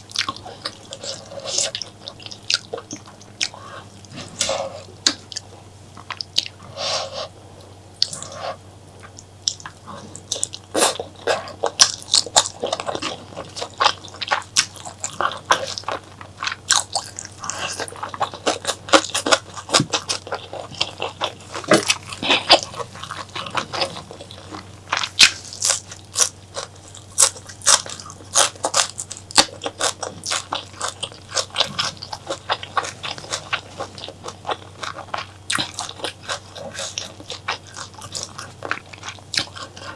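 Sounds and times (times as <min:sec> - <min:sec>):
biting and chewing food: 0:00.0 - 0:39.9.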